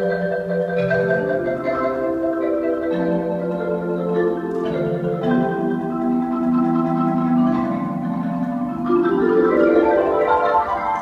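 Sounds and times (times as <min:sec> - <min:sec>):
solo marimba music: 0:00.0 - 0:11.0.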